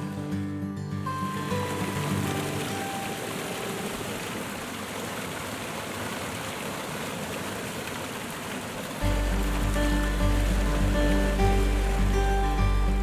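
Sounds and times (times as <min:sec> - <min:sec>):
waterfall rushing: 0:01.1 - 0:13.0.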